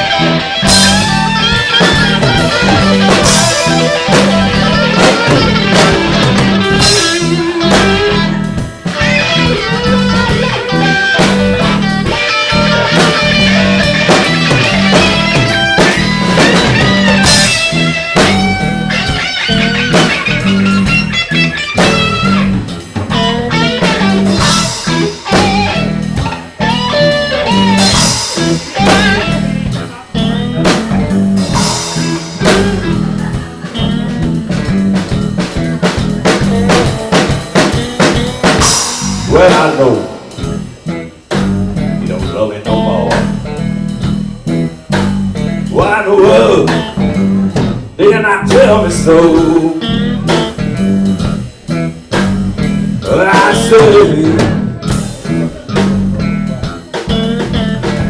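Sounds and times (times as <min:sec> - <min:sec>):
bass guitar: 0:00.0 - 0:58.0
drum kit: 0:00.0 - 0:58.0
lead electric guitar with bent notes: 0:00.0 - 0:58.0.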